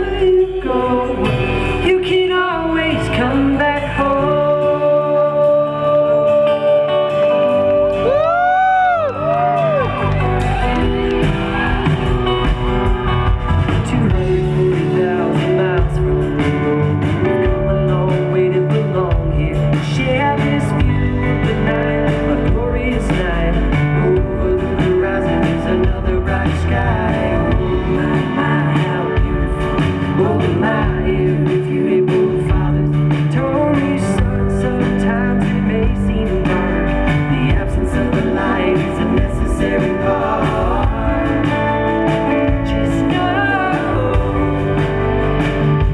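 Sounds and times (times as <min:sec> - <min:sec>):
acoustic guitar: 0:00.0 - 0:45.9
drum kit: 0:00.0 - 0:45.9.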